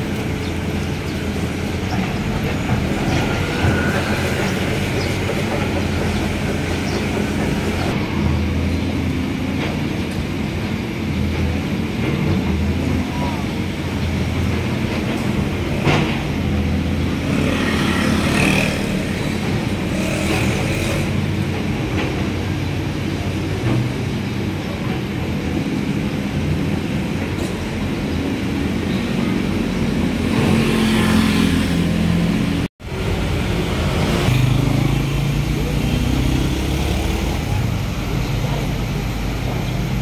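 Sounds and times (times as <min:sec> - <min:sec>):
vehicles passing close by: 0:00.0 - 0:40.0.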